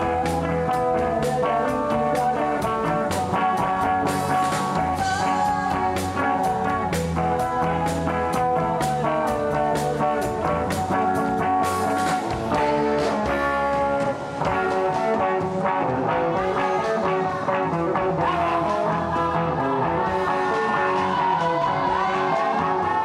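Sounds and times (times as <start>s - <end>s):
instrumental rock band: 0.0s - 23.0s.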